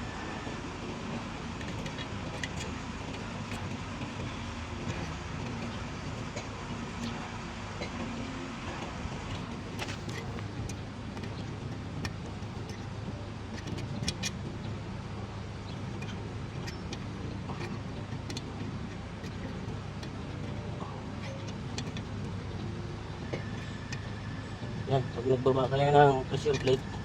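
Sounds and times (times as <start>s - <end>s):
low mechanical rumble: 0.0s - 27.0s.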